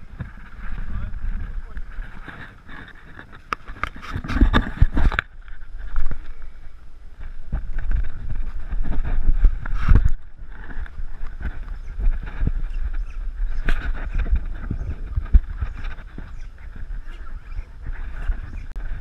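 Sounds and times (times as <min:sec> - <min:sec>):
sharp clicks and rustles: 0:00.0 - 0:06.5, 0:07.2 - 0:19.0
wind rumbling on microphone: 0:00.0 - 0:19.0.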